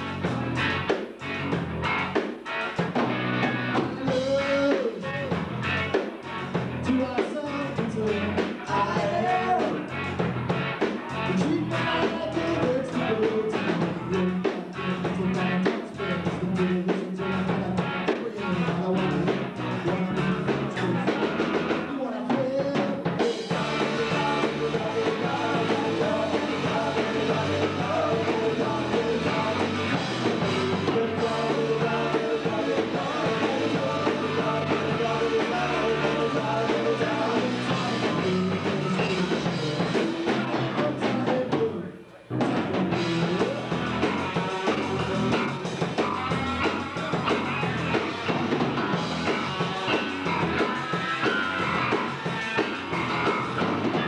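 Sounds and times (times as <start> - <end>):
drum kit: 0.0 - 54.0
electric bass: 0.0 - 54.0
electric guitar: 0.0 - 54.0.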